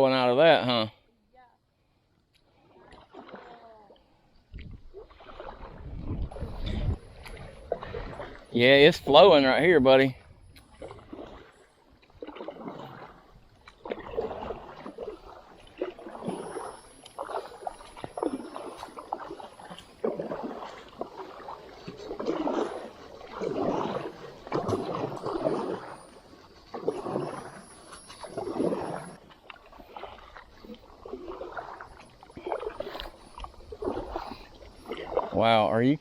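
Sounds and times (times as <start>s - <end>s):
kayak paddle splashing: 1.7s - 36.0s.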